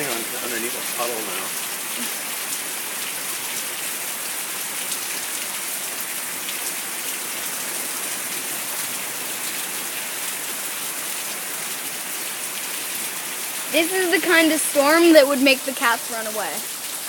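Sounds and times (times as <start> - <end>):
rain pouring: 0.0 - 17.0.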